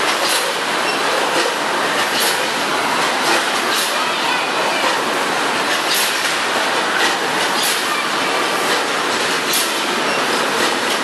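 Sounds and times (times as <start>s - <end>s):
packaging machine clatter: 0.0s - 4.0s, 4.8s - 11.0s.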